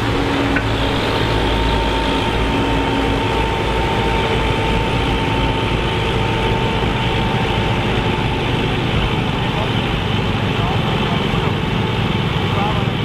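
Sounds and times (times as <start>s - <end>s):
thin steady whine: 0.0s - 13.0s
tractor diesel engine rumbling: 0.0s - 13.0s.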